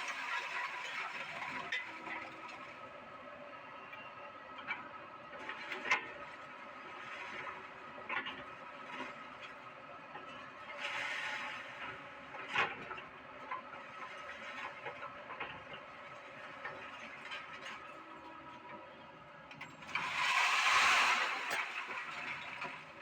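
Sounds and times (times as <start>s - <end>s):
excavator engine and hydraulics: 0.0s - 23.0s.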